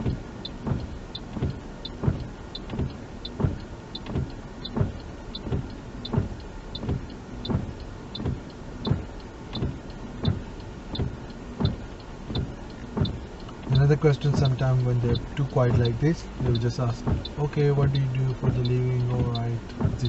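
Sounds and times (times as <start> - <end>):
car road and engine noise: 0.0 - 20.0
car turn indicator ticking: 0.0 - 20.0.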